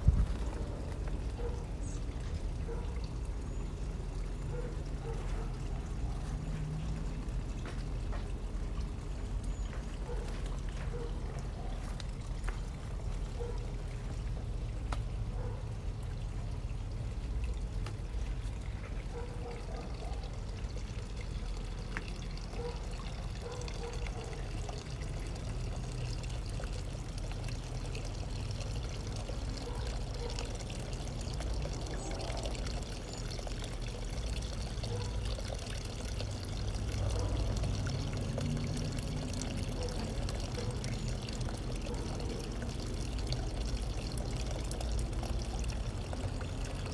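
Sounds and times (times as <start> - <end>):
trickle of running water: 0.0 - 46.9.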